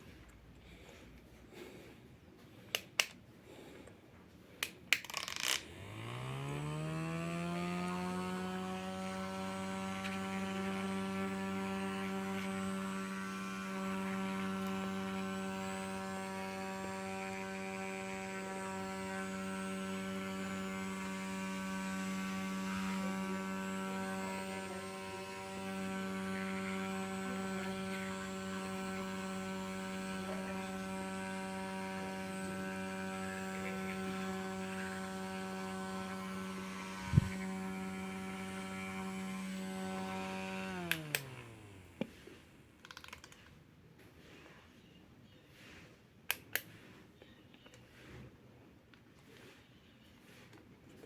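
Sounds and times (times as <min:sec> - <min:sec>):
small electric fan humming: 0:00.0 - 0:43.5.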